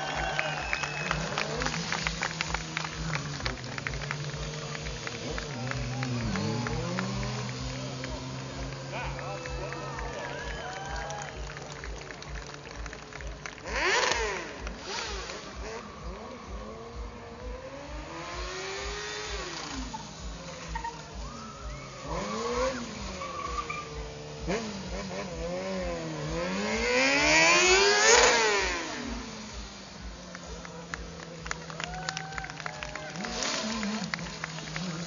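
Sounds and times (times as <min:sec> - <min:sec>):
motorbike engines revving: 0:00.0 - 0:35.0
motorbike passing by: 0:00.0 - 0:35.0.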